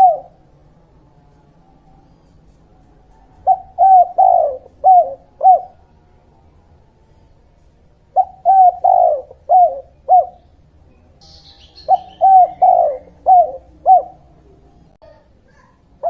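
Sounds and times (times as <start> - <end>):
dove cooing: 0.0 - 15.8
faint bird chirp: 0.0 - 16.0.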